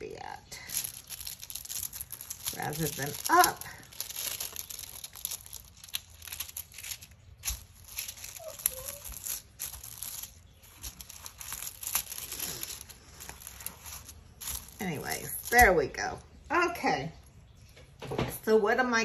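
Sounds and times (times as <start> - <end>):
plastic sheet crinkling: 0.4 - 16.4.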